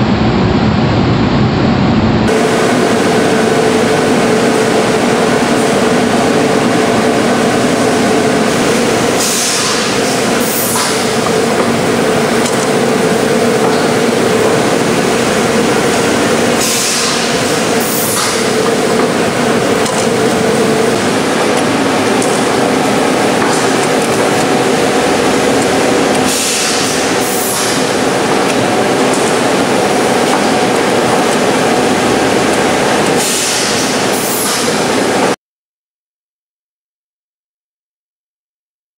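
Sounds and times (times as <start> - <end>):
packaging machinery drone: 0.0 - 35.4.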